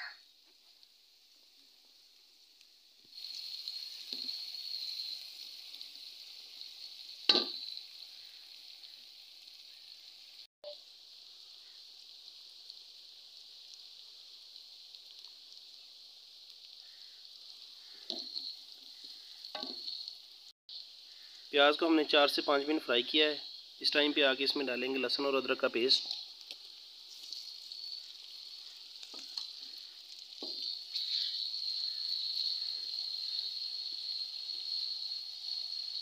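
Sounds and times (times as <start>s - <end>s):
onions sizzling in a pot: 0.0s - 36.0s.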